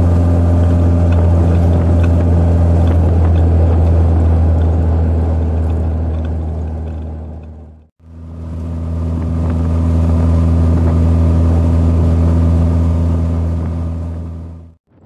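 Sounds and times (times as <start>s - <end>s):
car engine drone: 0.0s - 15.0s
road noise: 0.0s - 15.0s.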